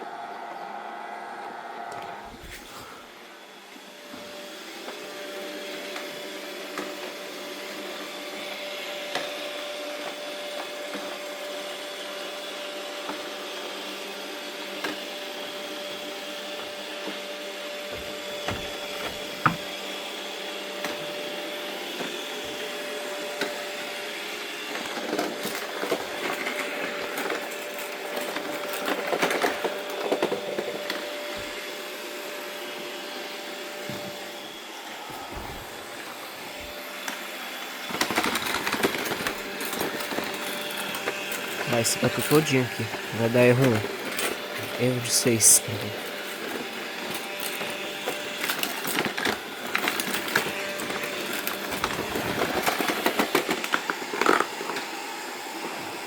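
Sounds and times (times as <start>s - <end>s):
robot vacuum cleaner running: 0.0s - 56.0s.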